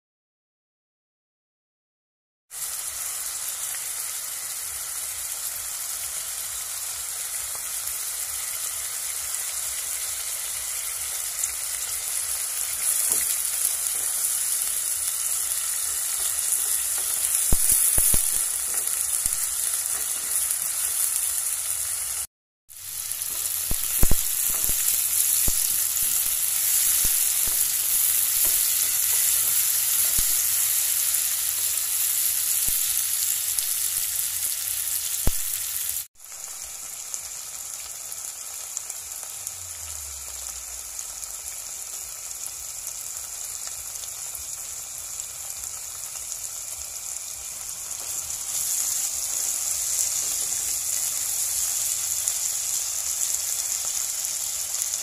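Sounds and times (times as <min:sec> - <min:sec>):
meat sizzling in oil: 0:02.5 - 0:55.0.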